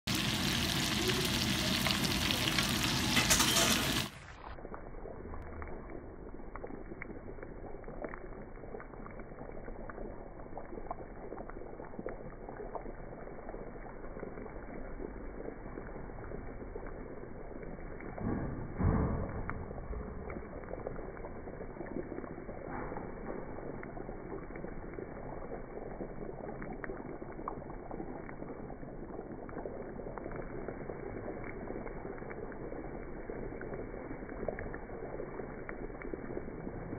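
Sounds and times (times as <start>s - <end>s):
butter and oil sizzling in pan: 0.1s - 36.9s.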